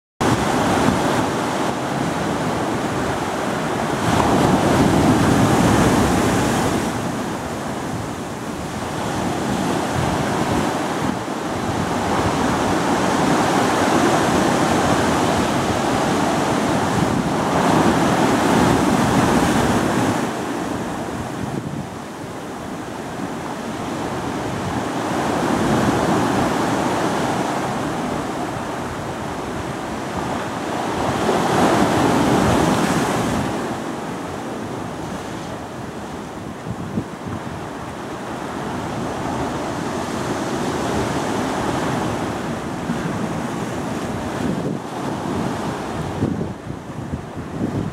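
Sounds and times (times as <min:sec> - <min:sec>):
ocean waves breaking on rocks: 0:00.2 - 0:47.9.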